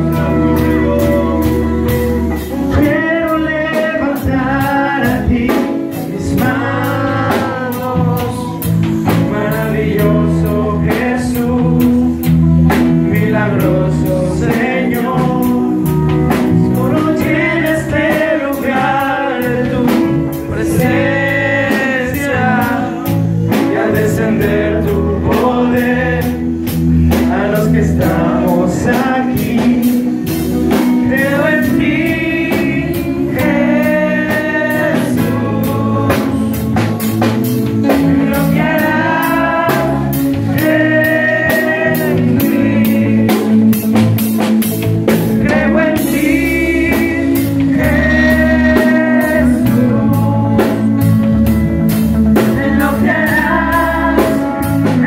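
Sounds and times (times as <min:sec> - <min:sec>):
bass guitar: 0:00.0 - 0:55.0
drum kit steady beat: 0:00.0 - 0:55.0
keyboard: 0:00.0 - 0:55.0
people singing: 0:00.0 - 0:55.0.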